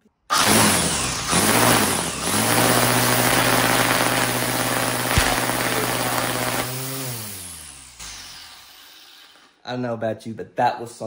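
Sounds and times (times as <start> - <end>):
angle grinder running: 0.3 - 9.4.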